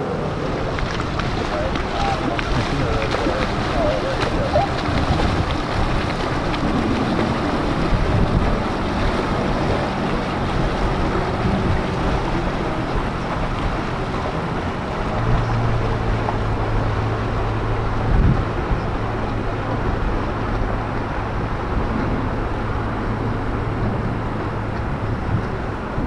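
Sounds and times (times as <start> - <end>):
motorboat engine drone: 0.0 - 26.0
wind on microphone: 0.0 - 26.0.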